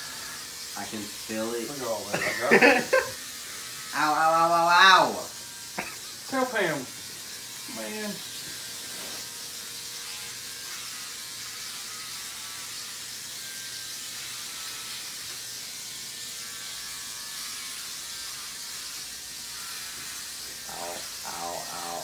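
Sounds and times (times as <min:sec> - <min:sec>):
electric hair clippers buzzing: 0:00.0 - 0:22.0.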